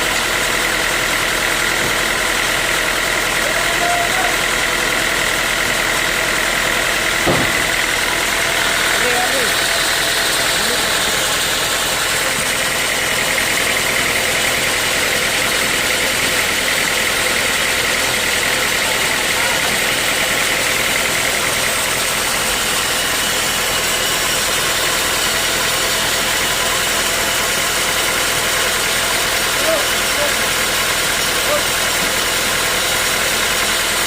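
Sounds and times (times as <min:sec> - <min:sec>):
sawmill machinery running: 0:00.0 - 0:34.0.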